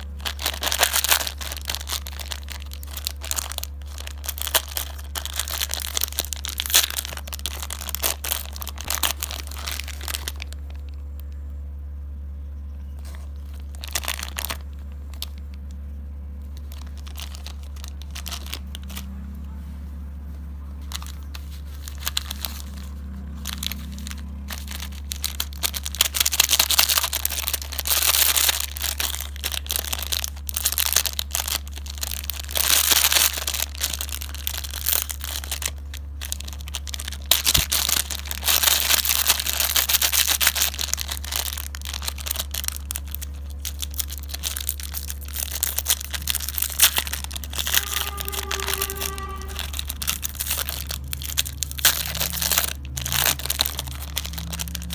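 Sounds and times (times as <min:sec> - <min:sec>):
wrappers crinkling and tearing: 0:00.0 - 0:11.4, 0:13.0 - 0:19.6, 0:20.2 - 0:54.9
steady low hum: 0:00.0 - 0:54.9.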